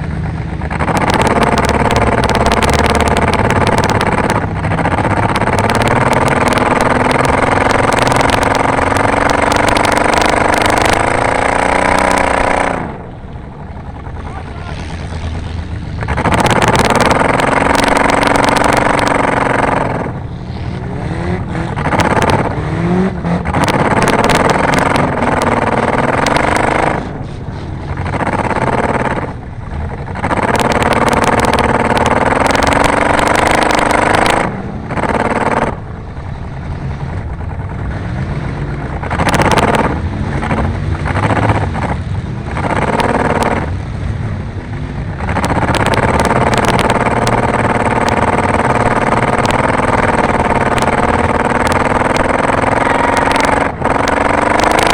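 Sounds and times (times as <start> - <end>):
car engine revving hard: 0.0 - 13.1, 14.3 - 35.8, 37.7 - 44.0, 45.1 - 54.9
sharp clattering: 0.0 - 20.7, 21.4 - 35.9, 38.8 - 43.8, 45.1 - 54.9.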